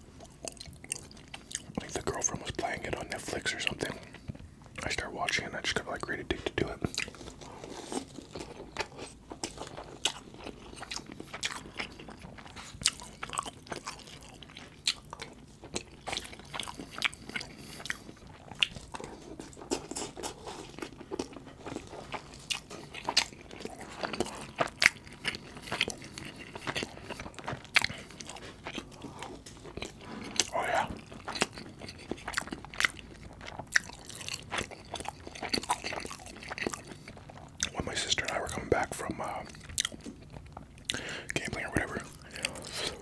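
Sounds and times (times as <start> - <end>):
wet chewing and smacking: 0.0 - 43.0.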